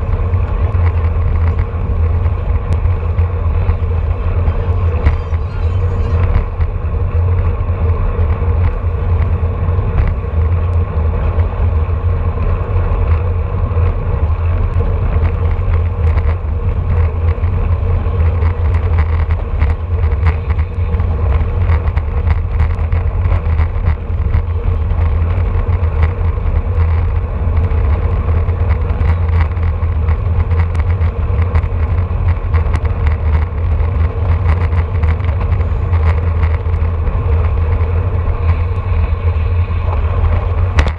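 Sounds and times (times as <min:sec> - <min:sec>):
tyre and road noise: 0:00.0 - 0:40.9
wind rumble on microphone: 0:00.0 - 0:40.9.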